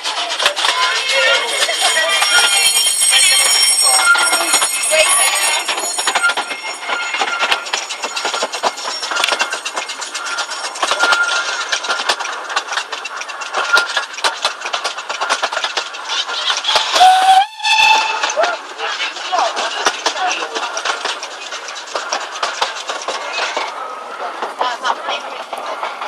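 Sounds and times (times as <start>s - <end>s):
wheel squeals: 0.0s - 24.0s
train wheels clattering: 0.0s - 26.0s.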